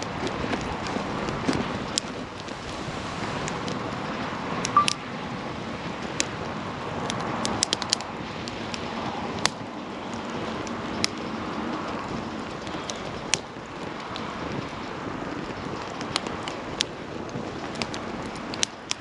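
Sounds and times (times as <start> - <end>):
campfire crackling and popping: 0.0 - 19.0
steady rushing noise: 0.0 - 19.0.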